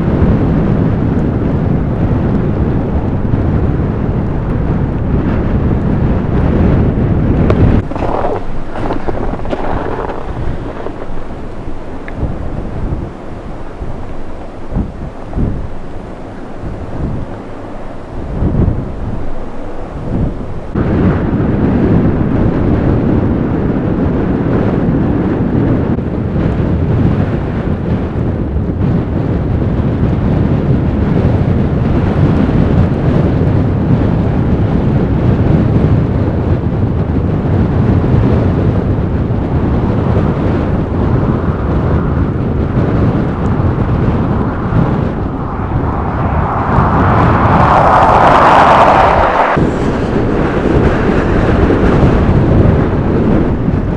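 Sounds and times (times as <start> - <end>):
blizzard wind buffeting microphone: 0.0 - 53.9.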